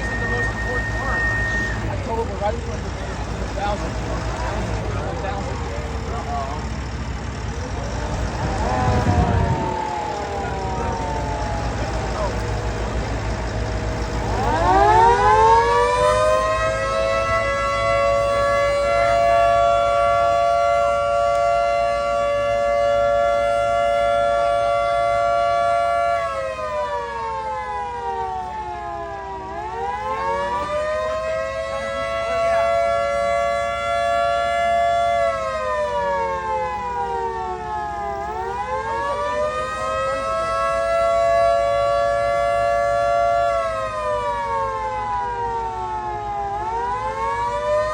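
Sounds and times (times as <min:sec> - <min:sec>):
warning siren: 0:00.0 - 0:47.9.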